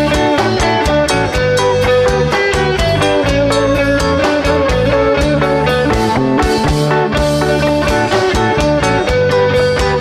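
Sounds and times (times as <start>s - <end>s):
live rock band playing: 0.0s - 10.0s
steady drum beat: 0.0s - 10.0s
sustained guitar notes: 0.0s - 10.0s.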